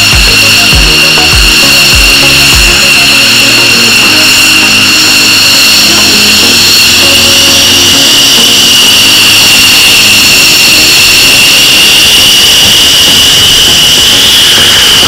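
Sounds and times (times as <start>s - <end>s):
jet engines turbine whine: 0.0s - 15.0s
rushing jet exhaust: 0.0s - 15.0s.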